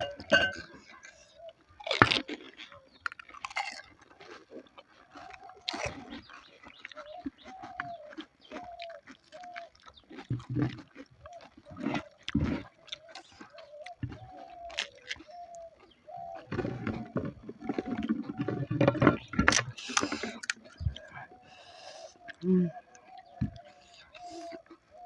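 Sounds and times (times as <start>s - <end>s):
pigeon cooing: 0.0s - 1.6s, 5.0s - 9.7s, 10.4s - 25.0s
chewing crisp shells: 0.0s - 25.0s.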